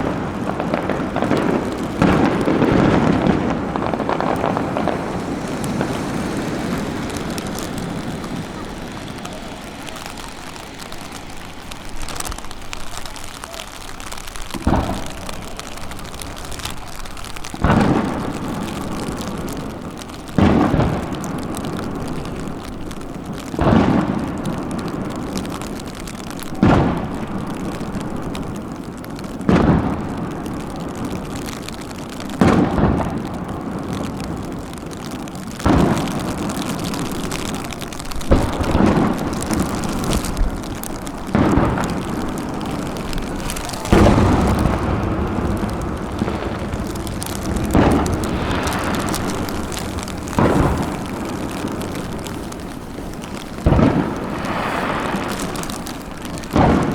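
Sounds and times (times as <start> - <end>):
firework shells bursting: 0.0 - 56.9.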